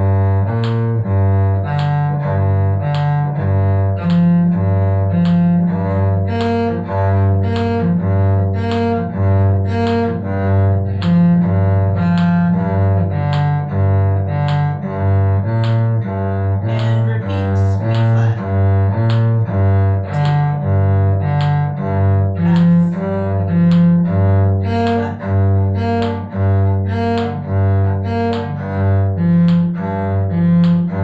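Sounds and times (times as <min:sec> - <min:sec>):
cello bowed arpeggio: 0:00.0 - 0:31.0.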